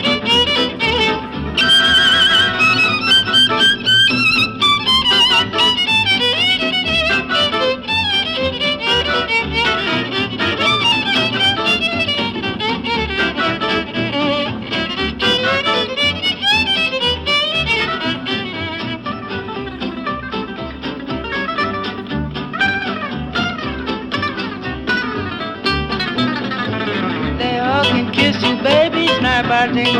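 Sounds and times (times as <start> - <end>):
guitar: 0.0 - 29.9
lead violin: 0.0 - 29.9.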